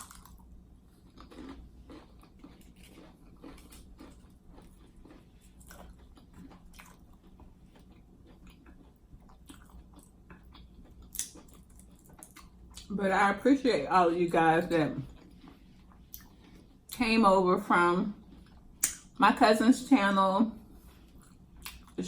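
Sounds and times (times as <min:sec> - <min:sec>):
person chewing food: 0:00.0 - 0:12.9, 0:14.6 - 0:17.0, 0:18.2 - 0:19.2, 0:20.6 - 0:22.0.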